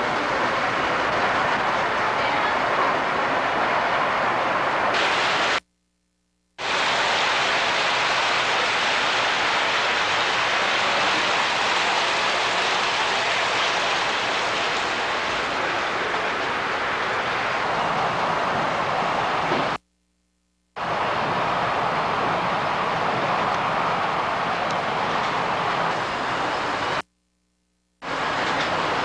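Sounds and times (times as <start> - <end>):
train rushing along track: 0.0 - 5.6, 6.6 - 19.8, 20.8 - 27.0, 28.0 - 29.0.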